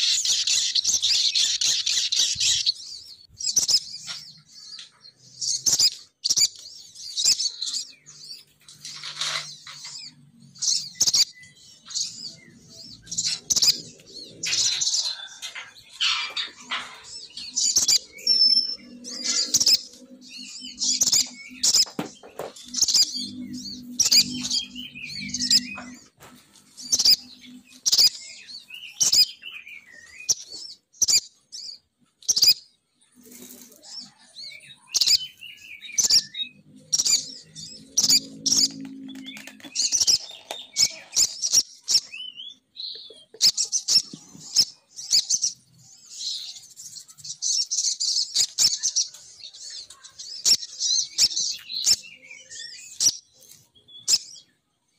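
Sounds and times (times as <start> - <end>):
bird chirps and trills: 0.0 - 54.7.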